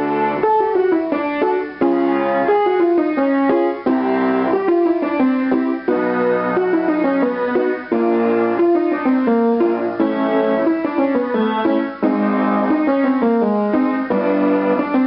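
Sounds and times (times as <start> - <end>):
piano warm-up note patterns: 0.0 - 15.0.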